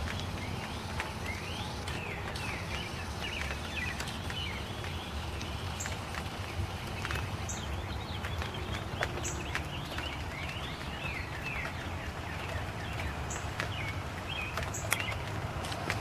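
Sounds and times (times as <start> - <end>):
light rain pattering: 0.0 - 16.0
small birds chirping: 0.0 - 16.0.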